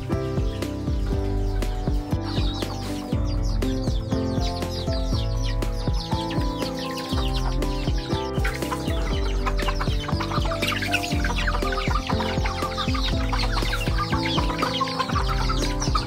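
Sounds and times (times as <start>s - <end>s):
background music with held notes: 0.0s - 16.0s
chickens clucking: 0.0s - 16.0s.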